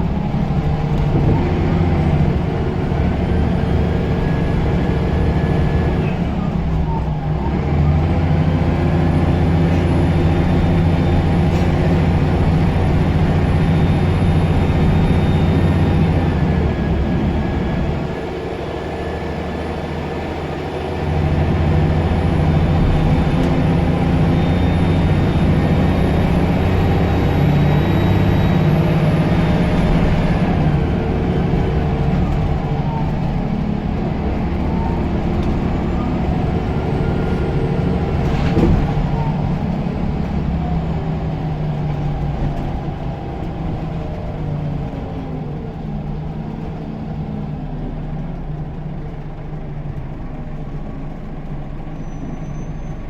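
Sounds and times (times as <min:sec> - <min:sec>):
bus engine pulling hard: 0:00.0 - 0:53.0.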